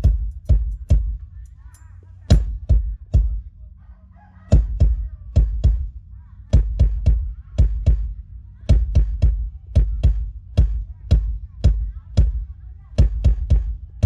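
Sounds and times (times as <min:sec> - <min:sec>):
drum kit through a pa: 0:00.0 - 0:01.2, 0:02.3 - 0:03.5, 0:04.5 - 0:14.0
low steady hum: 0:00.0 - 0:14.0.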